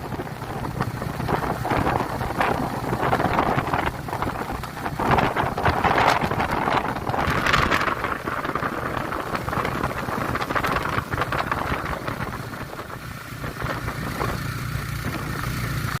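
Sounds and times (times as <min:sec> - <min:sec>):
wind on microphone: 0:00.0 - 0:15.8
motorcycle engine running: 0:00.0 - 0:16.0.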